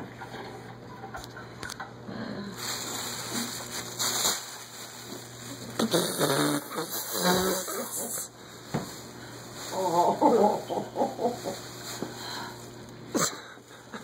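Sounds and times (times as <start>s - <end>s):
plastic bag rustling and crinkling: 2.6s - 14.0s.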